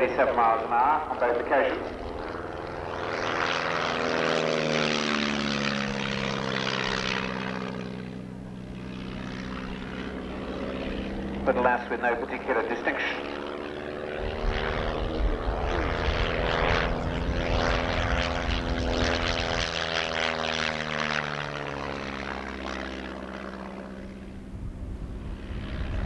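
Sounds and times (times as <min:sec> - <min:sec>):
propeller plane engine: 0:00.0 - 0:26.0.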